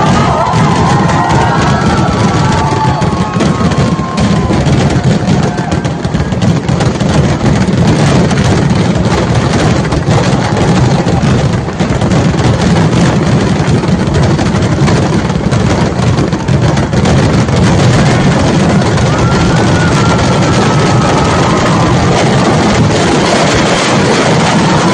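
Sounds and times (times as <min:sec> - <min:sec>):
firework explosions: 0:00.0 - 0:24.9
heavy low rumble: 0:00.0 - 0:24.9.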